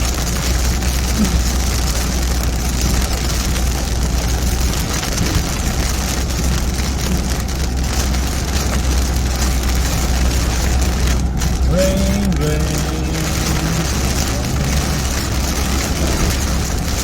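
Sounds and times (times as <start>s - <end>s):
engine and road noise: 0.0s - 17.0s
heavy rain on a car: 0.0s - 17.0s.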